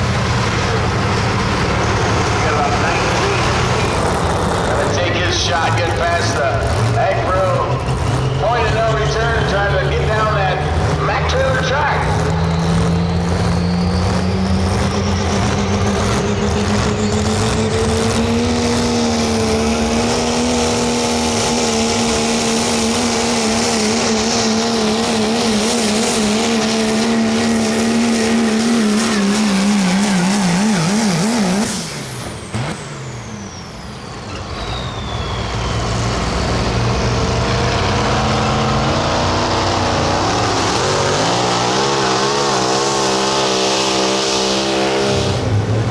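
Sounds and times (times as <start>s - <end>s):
diesel pickup engine under load: 0.0s - 45.9s
turbocharger whistle: 0.4s - 45.7s.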